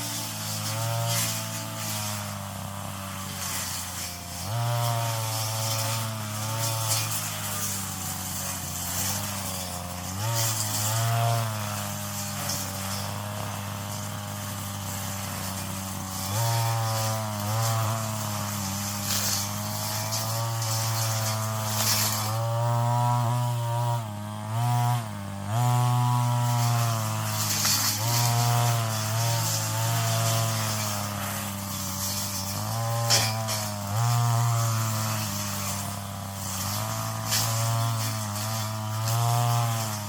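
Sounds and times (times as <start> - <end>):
brush cutter engine running: 0.0 - 40.0.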